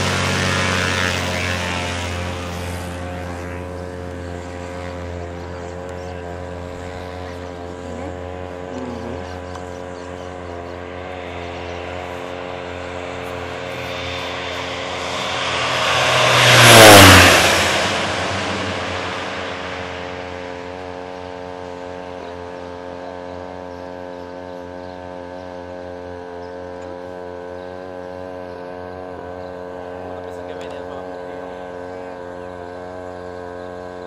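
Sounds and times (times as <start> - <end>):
propeller plane flying past: 0.0 - 34.0.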